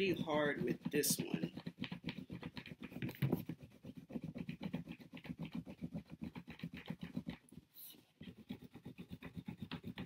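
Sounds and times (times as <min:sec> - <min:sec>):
crayon scratching on paper: 0:00.0 - 0:10.0.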